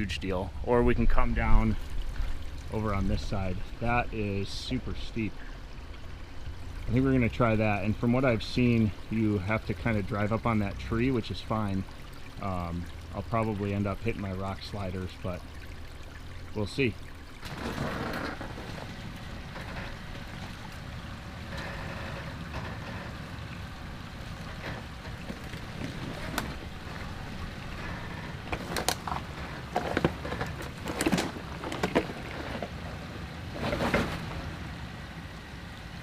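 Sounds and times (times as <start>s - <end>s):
low engine rumble: 0.0s - 36.0s
tires knocking and scraping rock: 0.8s - 35.7s.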